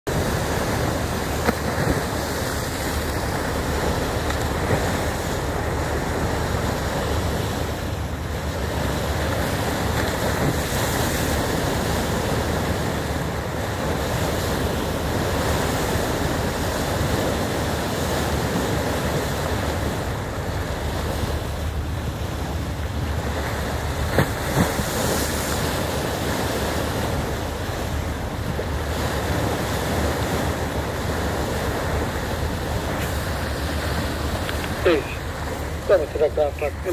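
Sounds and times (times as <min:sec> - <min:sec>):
boat bow wave rushing: 0:00.0 - 0:36.9.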